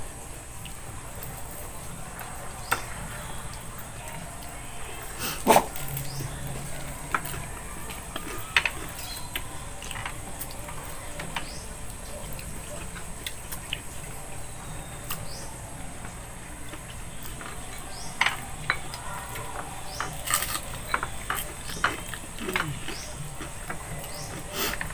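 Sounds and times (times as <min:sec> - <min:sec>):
chewing and lip-smacking: 0:00.5 - 0:24.9.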